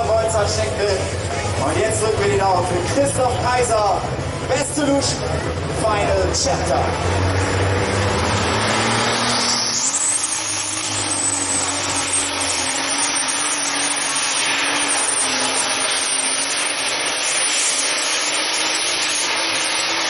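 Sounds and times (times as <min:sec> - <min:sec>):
tractor engine revving: 0:00.0 - 0:20.0.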